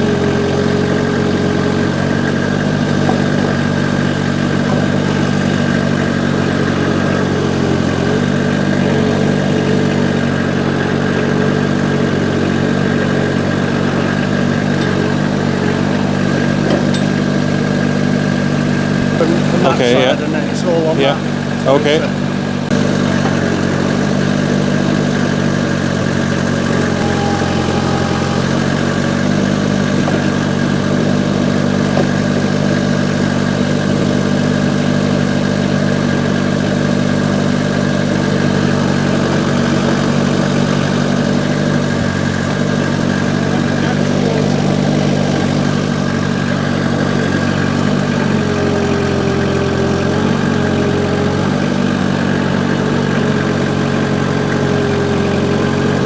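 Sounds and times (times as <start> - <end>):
diesel engine running at low revs: 0.0 - 56.0.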